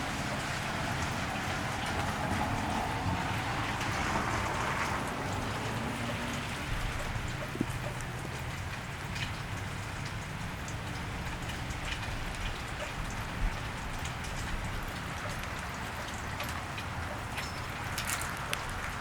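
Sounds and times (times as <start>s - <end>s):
rain falling on wet street: 0.0s - 19.0s
drops ticking: 1.8s - 19.0s.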